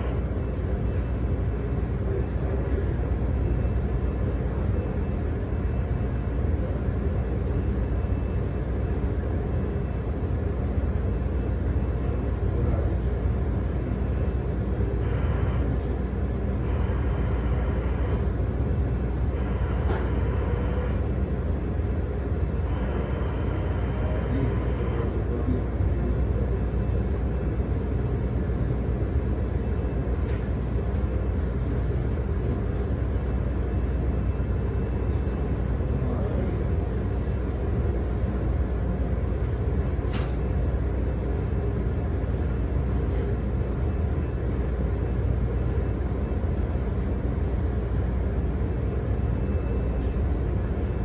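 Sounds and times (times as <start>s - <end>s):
ship machinery drone: 0.0s - 51.0s.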